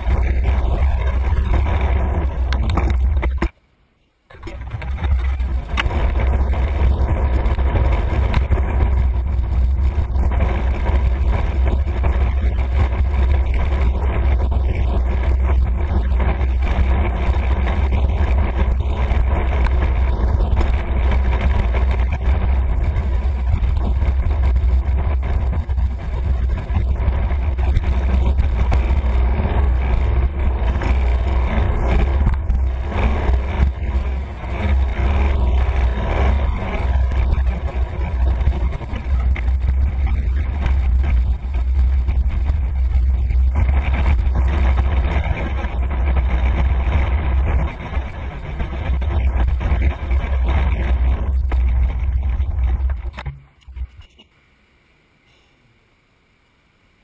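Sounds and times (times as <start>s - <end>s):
wind rumble on microphone: 0.0s - 3.5s, 4.3s - 54.2s
road noise: 0.0s - 57.0s.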